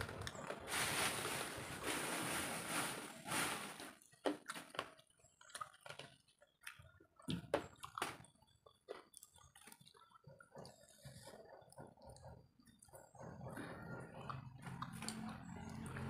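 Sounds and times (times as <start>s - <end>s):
noisy chewing: 0.0s - 1.1s, 4.0s - 16.0s.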